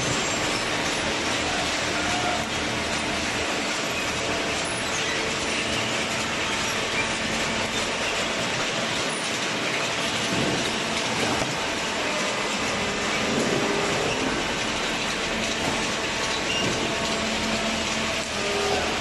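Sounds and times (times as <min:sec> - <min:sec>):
baler machine running: 0:00.0 - 0:19.0.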